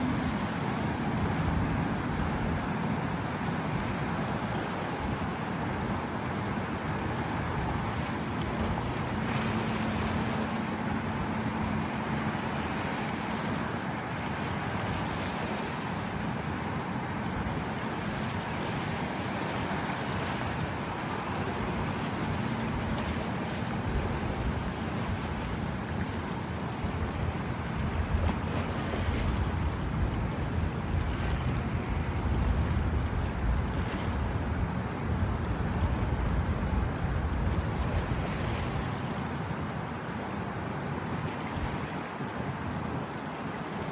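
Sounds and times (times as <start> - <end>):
rushing wind: 0.0 - 43.9
waves washing along shore: 0.0 - 43.9.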